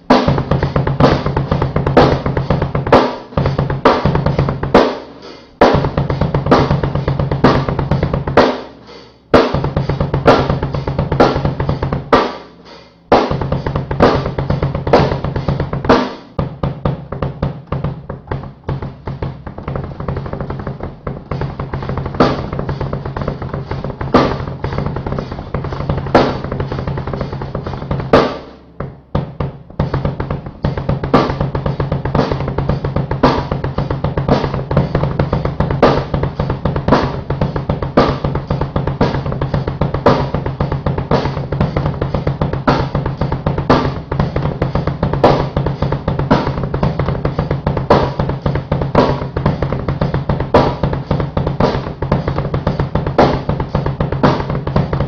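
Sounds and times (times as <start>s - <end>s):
drum kit accents: 0.0s - 55.0s
fast bass drum strokes: 0.0s - 55.0s.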